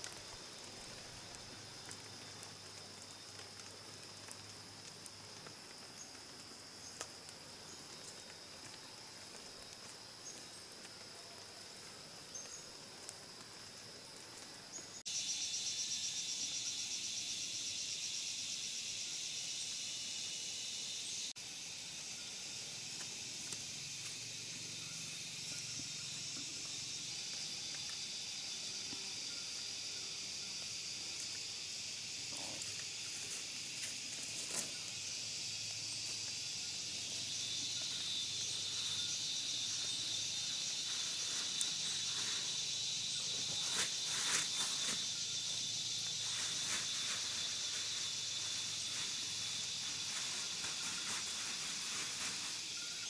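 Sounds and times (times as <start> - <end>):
cicadas and crickets buzzing: 0.0 - 53.0
rapidly pulsing insect buzz: 0.0 - 53.0.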